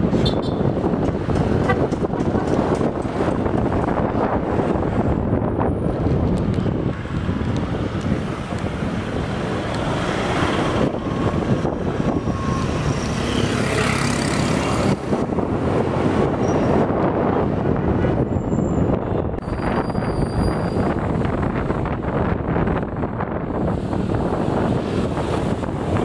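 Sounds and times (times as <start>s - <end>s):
passing traffic: 0.0s - 26.0s
wind rush on microphone: 0.0s - 26.0s.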